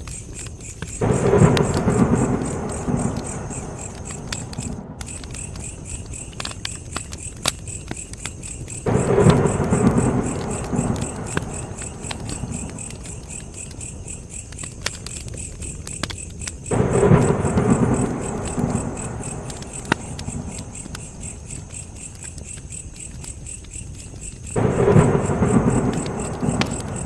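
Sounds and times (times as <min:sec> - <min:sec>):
campfire crackling and popping: 0:00.0 - 0:27.0
crickets chirping: 0:00.0 - 0:27.0.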